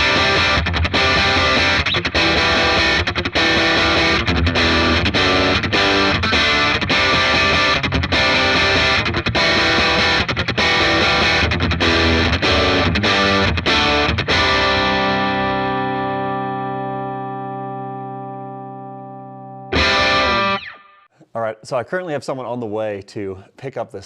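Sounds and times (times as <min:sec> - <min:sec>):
distorted electric guitar riff: 0:00.0 - 0:21.1.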